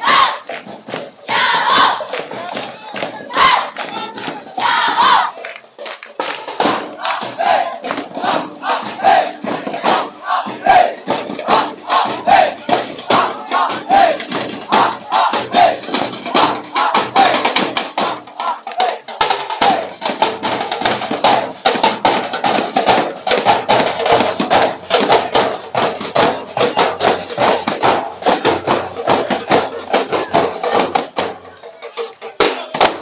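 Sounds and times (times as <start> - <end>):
crowd shouting and chanting: 0.0 - 33.0
fast percussion drumming: 0.0 - 33.0.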